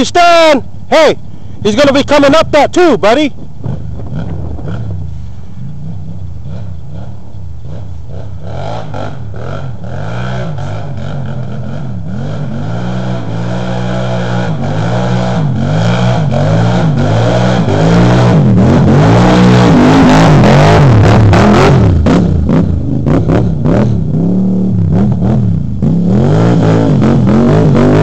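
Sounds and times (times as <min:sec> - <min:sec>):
atv engine revving: 0:01.7 - 0:28.0.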